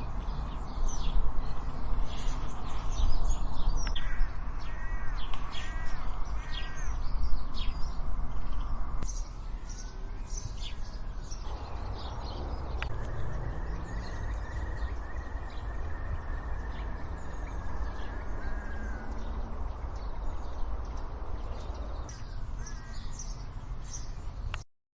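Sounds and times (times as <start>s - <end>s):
small birds chirping and singing: 0.0s - 24.6s.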